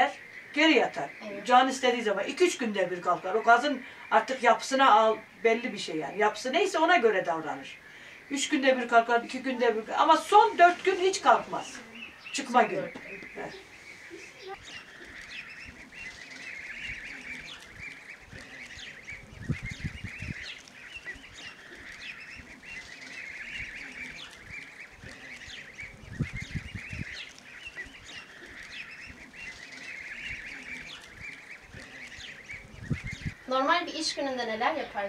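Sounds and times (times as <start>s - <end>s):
young geese peeping and calling: 0.0s - 35.0s.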